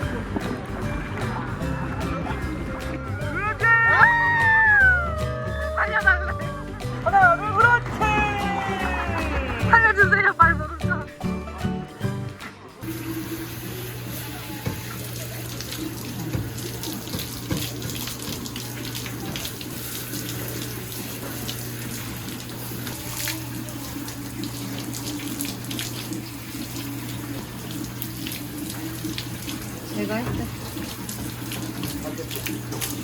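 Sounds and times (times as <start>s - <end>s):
water running: 0.0s - 33.0s.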